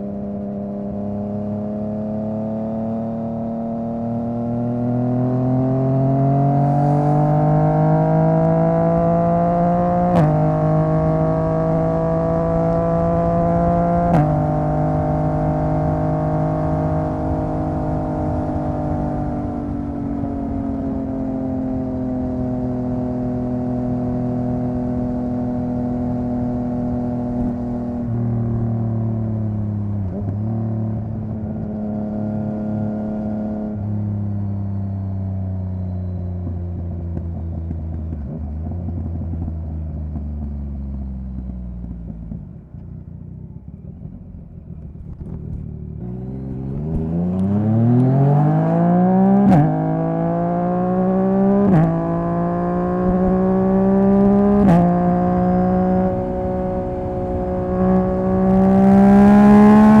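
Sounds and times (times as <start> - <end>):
motorcycle engine: 0.0 - 60.0
motorcycle engine revving: 0.0 - 60.0.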